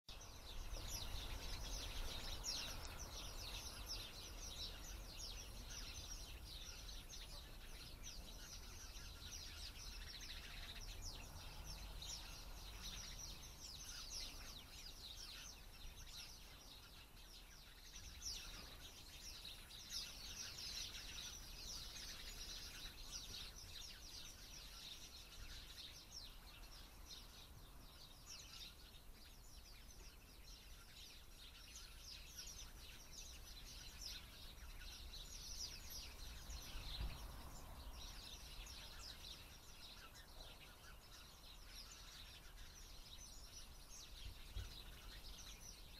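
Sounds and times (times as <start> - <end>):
small birds chirping and twittering: 0.0 - 45.9.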